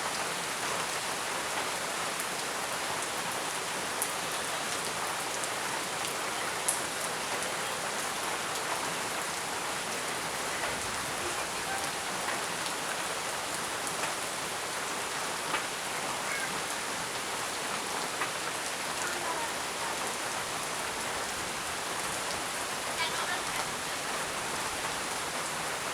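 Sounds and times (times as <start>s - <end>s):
heavy rain hiss: 0.0s - 25.9s.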